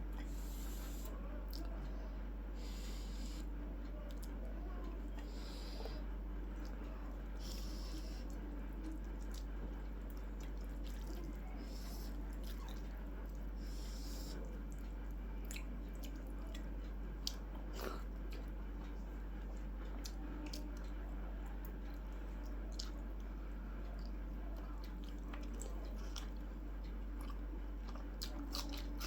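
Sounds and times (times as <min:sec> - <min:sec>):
chewing with mouth clicks: 0:00.1 - 0:01.9, 0:02.6 - 0:29.0.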